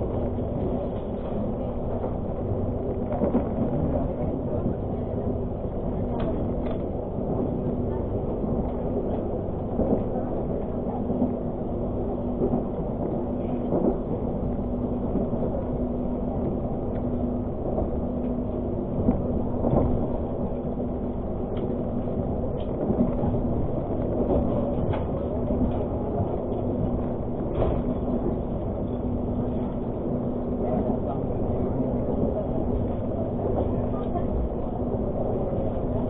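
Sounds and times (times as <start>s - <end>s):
train running rumble: 0.0s - 36.0s.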